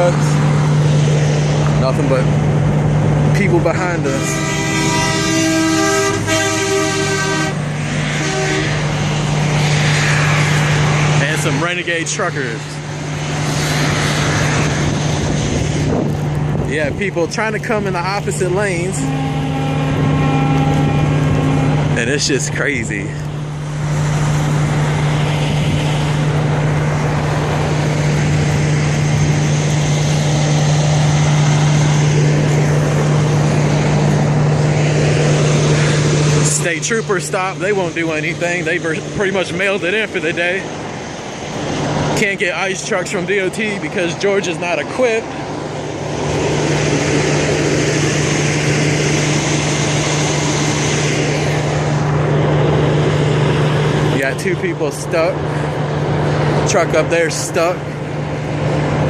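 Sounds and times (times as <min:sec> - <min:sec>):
loud rushing noise: 0:00.0 - 0:59.0
vehicle engine running: 0:00.0 - 0:59.0.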